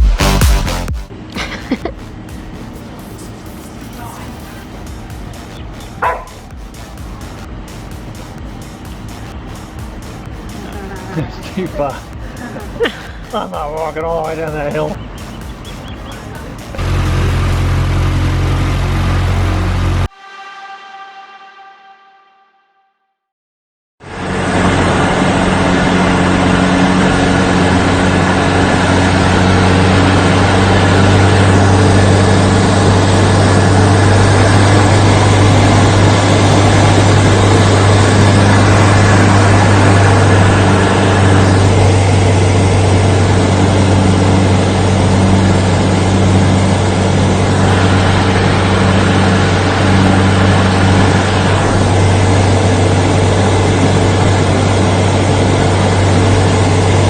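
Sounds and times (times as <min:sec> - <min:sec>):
engine running: 0:00.0 - 0:20.1, 0:24.0 - 0:57.0.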